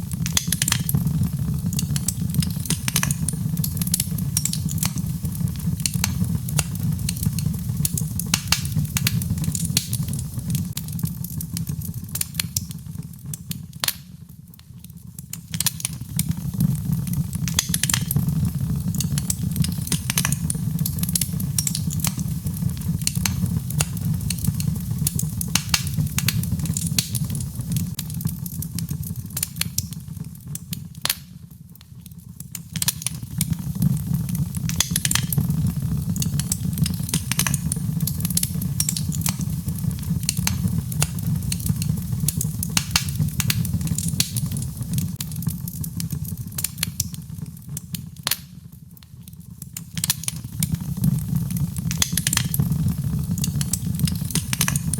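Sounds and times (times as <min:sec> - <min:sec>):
fire crackling and popping: 0:00.0 - 0:54.9
low rumble of fire: 0:00.0 - 0:54.9.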